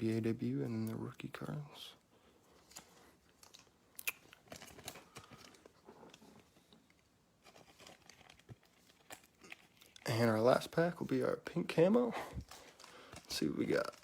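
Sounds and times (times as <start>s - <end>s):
wrapper crinkling: 2.5s - 14.0s.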